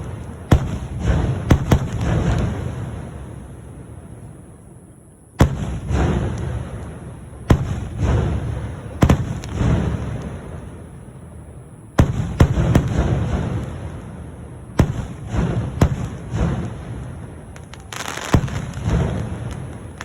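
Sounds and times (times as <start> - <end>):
rumbling after bangs: 0.0 - 4.6, 5.4 - 20.0
fireworks bangs: 0.0 - 20.0.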